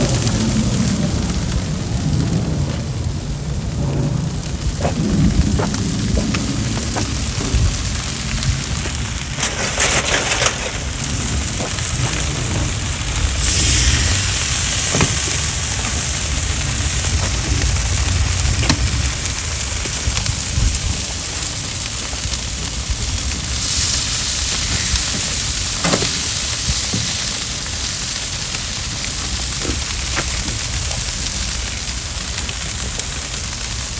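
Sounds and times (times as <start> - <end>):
fire hissing and crackling: 0.0 - 33.9
sharp pops of fire: 3.8 - 33.6.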